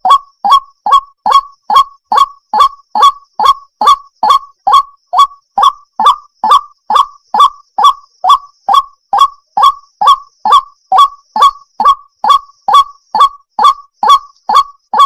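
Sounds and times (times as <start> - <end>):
waterhen calling harshly: 0.0 - 15.0.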